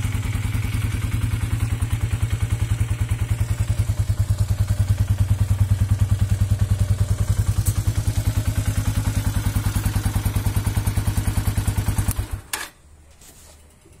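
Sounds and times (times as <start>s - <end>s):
motorcycle engine idling: 0.0s - 12.5s.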